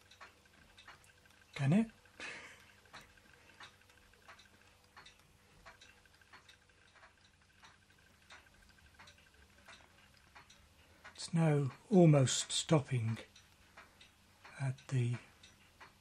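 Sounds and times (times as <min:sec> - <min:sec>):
faint regular engine ticking: 0:00.0 - 0:16.0.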